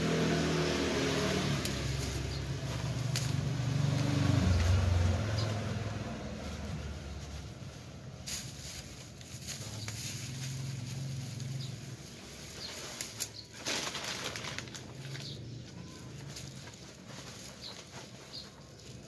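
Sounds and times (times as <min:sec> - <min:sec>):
plastic sack rustling: 0:01.2 - 0:19.0.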